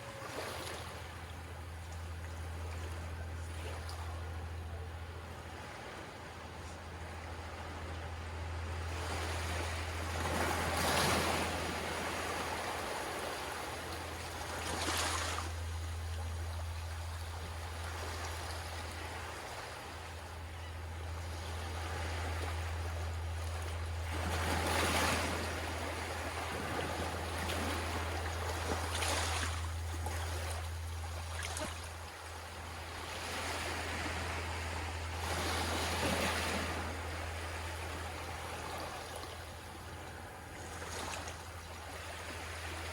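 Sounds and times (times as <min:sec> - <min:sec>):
steady low hum: 0:00.0 - 0:42.9
small waves washing on shore: 0:05.5 - 0:42.9.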